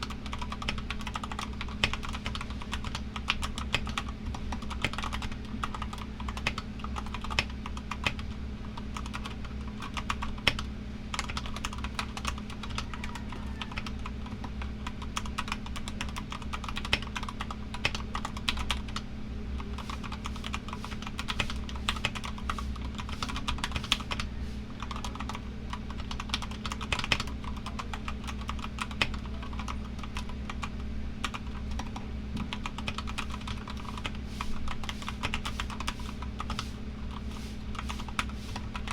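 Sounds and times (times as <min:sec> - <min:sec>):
typing on mechanical keyboard: 0:00.0 - 0:19.0, 0:19.6 - 0:38.9
air conditioner hum: 0:00.0 - 0:38.9.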